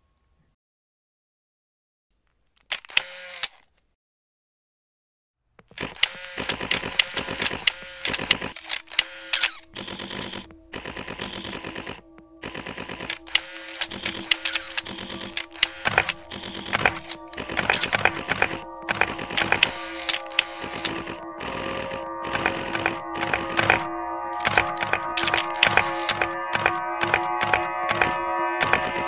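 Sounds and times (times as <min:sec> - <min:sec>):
camera shutters clicking: 0:02.6 - 0:03.7, 0:05.7 - 0:29.0.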